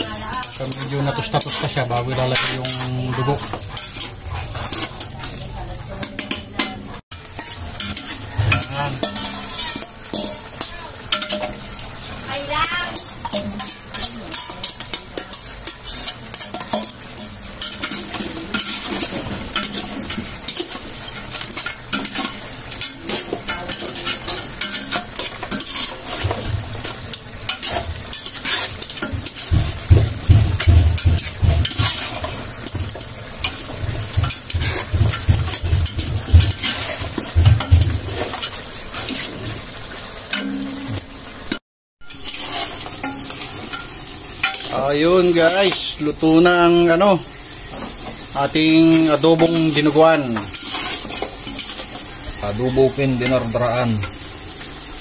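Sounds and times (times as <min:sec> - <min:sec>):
metal ladle scraping a pot: 0:00.0 - 0:41.1, 0:42.0 - 0:44.8, 0:47.4 - 0:54.6
stew sizzling in a pot: 0:00.0 - 0:55.0.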